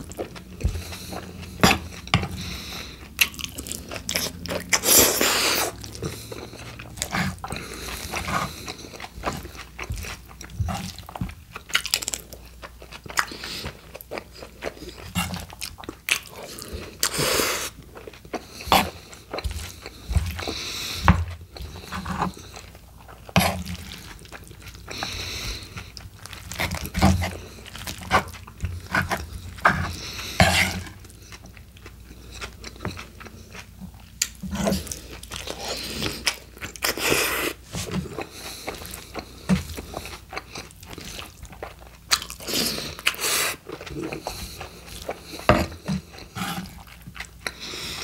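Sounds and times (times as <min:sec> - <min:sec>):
close chewing and crunching: 0:00.0 - 0:48.0.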